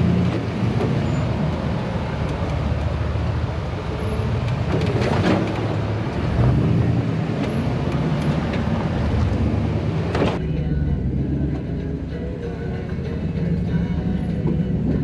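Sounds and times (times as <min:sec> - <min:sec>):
engine running at crawling speed: 0:00.0 - 0:15.0.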